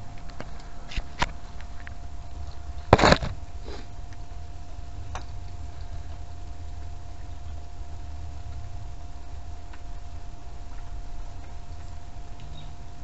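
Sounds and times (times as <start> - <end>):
faint steady hum: 0.0 - 13.0
steady low rumble: 0.0 - 13.0.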